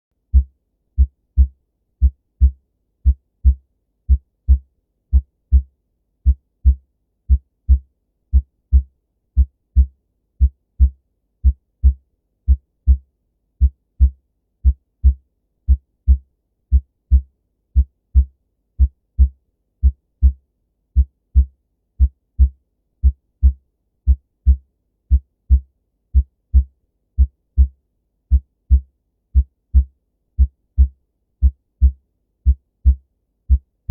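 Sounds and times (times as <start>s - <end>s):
heartbeat thumps: 0.3s - 13.0s, 13.6s - 17.2s, 17.8s - 20.4s, 21.0s - 33.9s.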